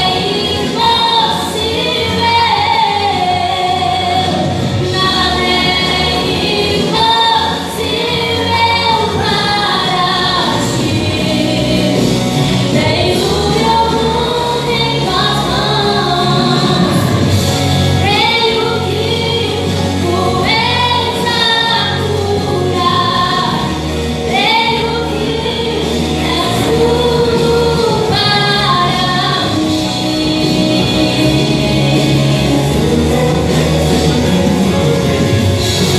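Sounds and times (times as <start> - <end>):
woman singing gospel song: 0.0 - 17.4, 18.0 - 34.4
instrumental accompaniment: 0.0 - 35.9
steady low bass: 0.0 - 35.9.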